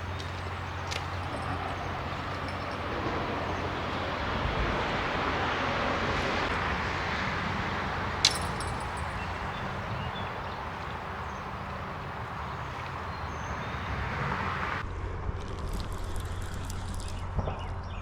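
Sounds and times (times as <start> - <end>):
vehicle passing by: 0.0 - 15.4.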